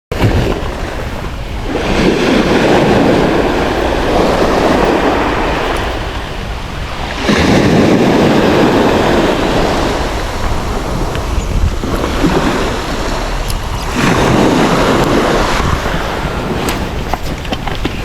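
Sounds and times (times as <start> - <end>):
waves breaking on a beach: 0.1 - 18.0
wind buffeting microphone: 0.1 - 18.0.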